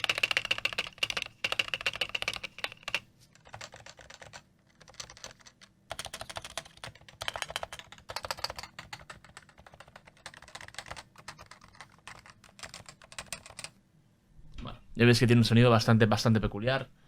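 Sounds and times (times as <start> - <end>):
fast keyboard typing: 0.0 - 13.8.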